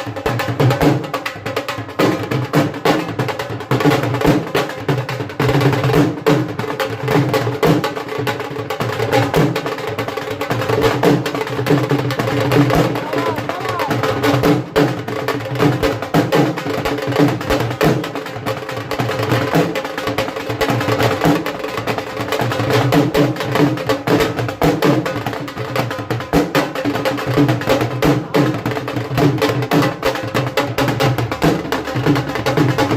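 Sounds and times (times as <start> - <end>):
dhol drum fast rhythm: 0.0 - 32.9.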